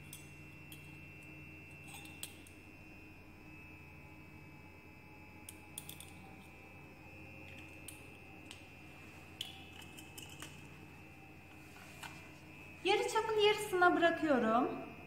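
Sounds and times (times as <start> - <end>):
faint high whine: 0.0 - 15.0
low hum: 0.0 - 15.0.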